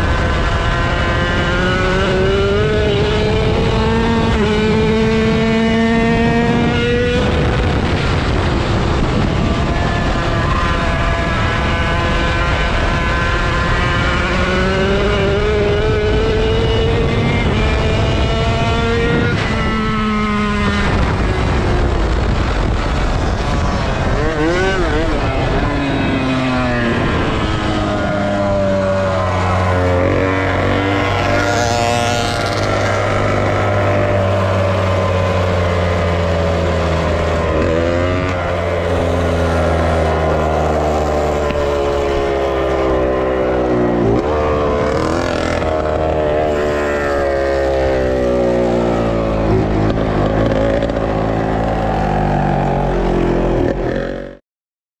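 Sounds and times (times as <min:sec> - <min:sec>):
motocross bike engine revving: 0:00.0 - 0:54.4.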